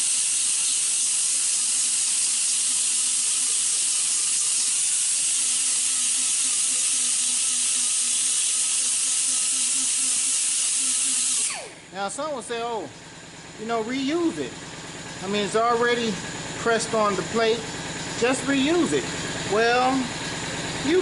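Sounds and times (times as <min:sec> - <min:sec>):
grinder sanding metal: 0:00.0 - 0:11.8, 0:15.2 - 0:21.0.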